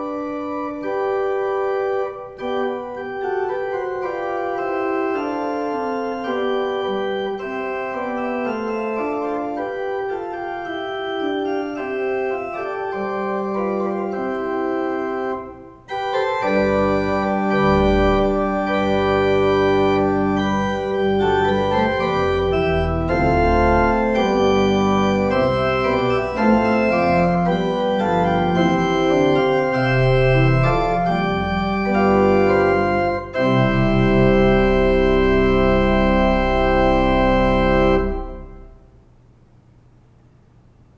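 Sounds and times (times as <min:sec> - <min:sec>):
organ music: 0:00.0 - 0:39.0.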